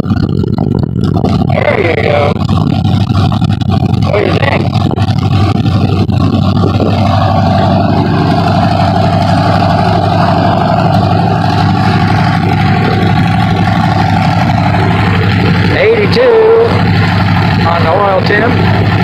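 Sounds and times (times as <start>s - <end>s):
aircraft engine running: 0.0s - 19.0s
steady whine: 0.0s - 19.0s.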